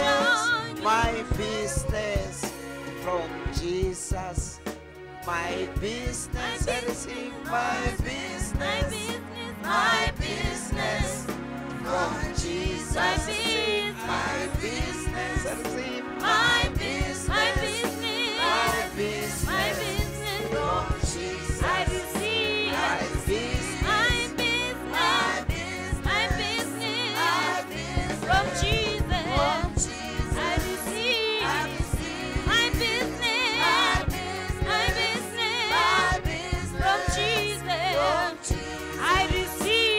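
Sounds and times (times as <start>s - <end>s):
gospel music with singing voices: 0.0s - 39.9s.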